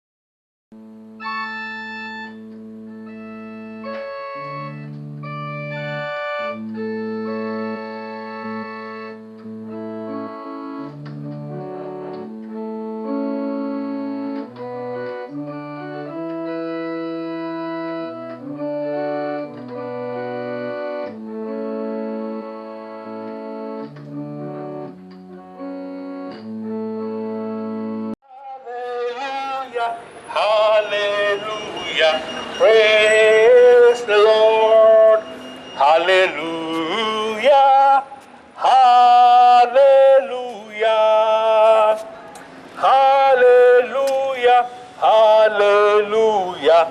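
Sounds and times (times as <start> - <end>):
organ playing sustained chords: 0.8 - 28.2, 29.0 - 46.9.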